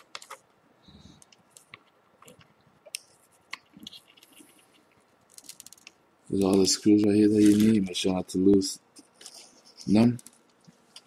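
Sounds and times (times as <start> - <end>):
small parts clicking and scratching: 0.0 - 0.5, 1.1 - 7.9, 9.0 - 11.0.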